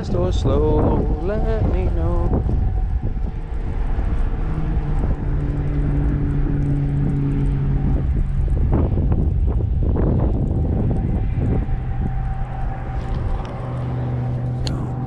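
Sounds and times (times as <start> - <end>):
mechanical drone: 0.0 - 15.0
wind buffeting microphone: 0.0 - 15.0.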